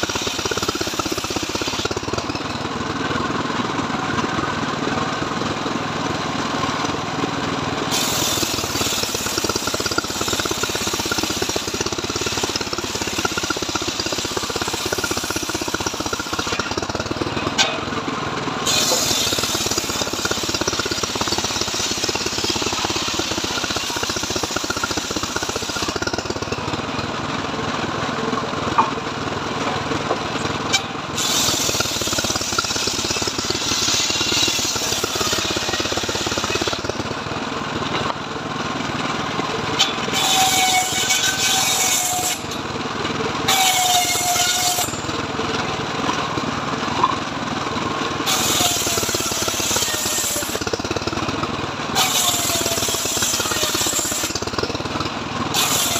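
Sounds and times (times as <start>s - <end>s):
circular sawmill cutting log: 0.0s - 55.9s.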